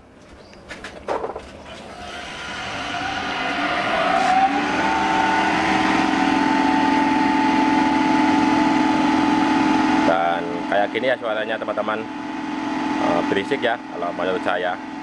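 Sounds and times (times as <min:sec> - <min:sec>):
supercharger blower whine: 0:01.1 - 0:15.0.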